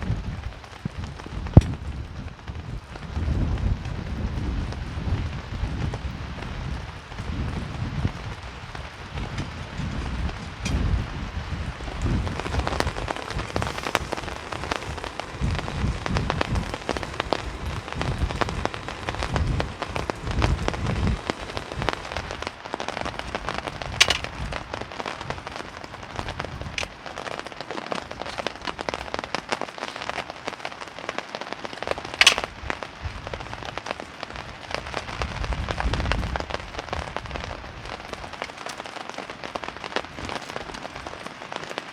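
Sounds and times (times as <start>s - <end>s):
wind buffeting microphone: 0.0s - 31.0s, 31.7s - 41.3s
heavy rain on a tarp: 0.0s - 41.9s.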